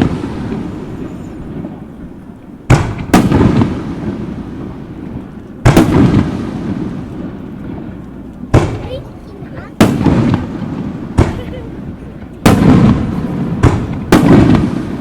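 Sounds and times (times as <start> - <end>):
fireworks booming: 0.0 - 15.0
rumbling echo: 0.0 - 15.0.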